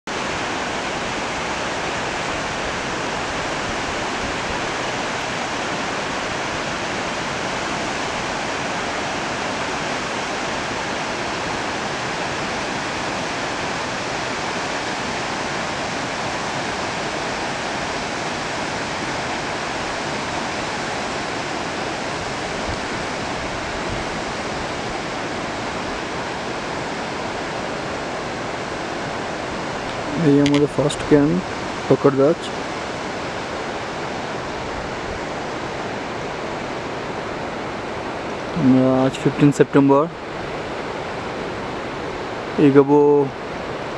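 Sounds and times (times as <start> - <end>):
stream rushing over rocks: 0.1 - 43.9.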